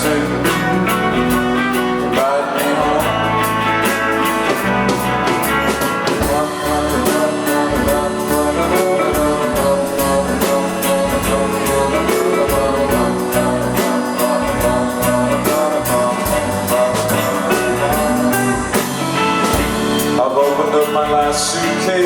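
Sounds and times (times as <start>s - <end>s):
bass guitar: 0.0s - 22.0s
drum kit beat: 0.0s - 22.0s
electric guitar: 0.0s - 22.0s.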